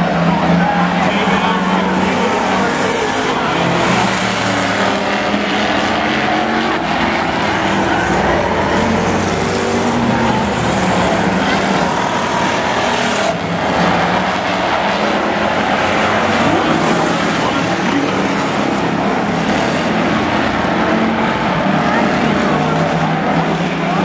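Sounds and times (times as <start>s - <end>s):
pickup truck engines racing: 0.0s - 24.0s.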